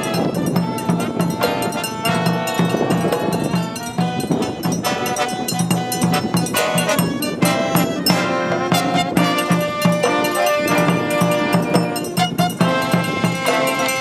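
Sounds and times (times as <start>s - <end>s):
brass instruments playing melody: 0.0s - 14.0s
steady drum beat: 0.0s - 14.0s.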